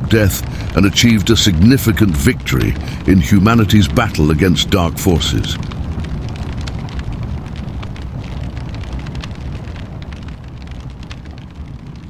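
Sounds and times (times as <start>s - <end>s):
fire crackling: 0.0s - 12.0s.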